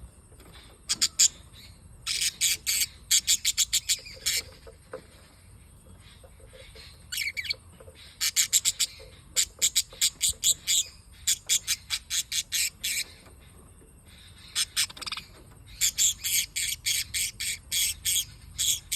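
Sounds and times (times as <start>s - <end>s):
parrots chirping and squawking: 0.4s - 18.9s.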